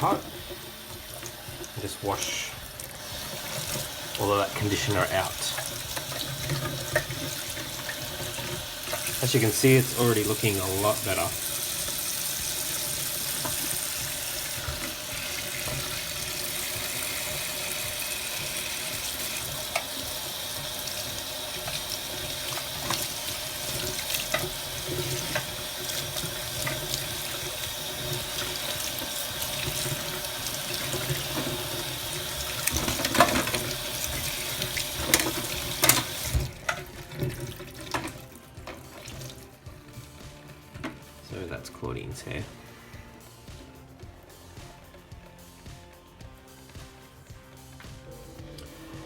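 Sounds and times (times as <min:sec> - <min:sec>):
tap water running into sink: 0:00.0 - 0:49.0.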